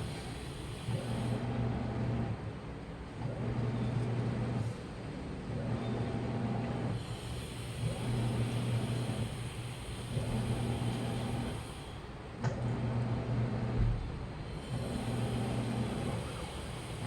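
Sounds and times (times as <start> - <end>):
washing machine motor running: 0.0 - 17.0.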